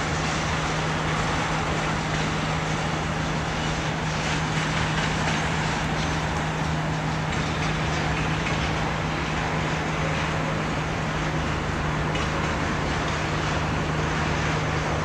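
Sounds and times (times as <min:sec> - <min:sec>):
steel wheels rushing on rails: 0:00.0 - 0:15.0.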